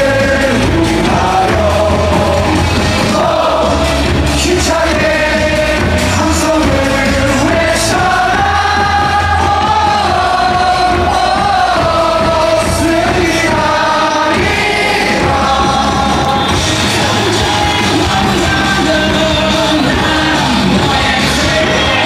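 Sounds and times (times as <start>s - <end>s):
crowd singing a cheer song: 0.0s - 22.0s
loud amplified music: 0.0s - 22.0s.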